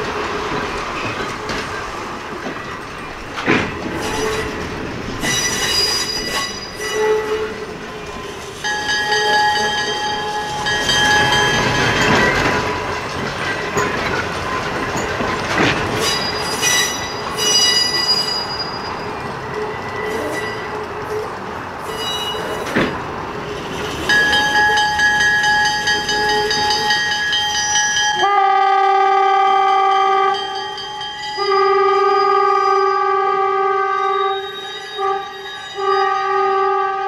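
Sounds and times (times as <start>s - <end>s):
steel wheels squealing on rails: 0.0s - 28.5s, 29.6s - 37.0s
electric locomotive rolling past: 0.0s - 37.0s.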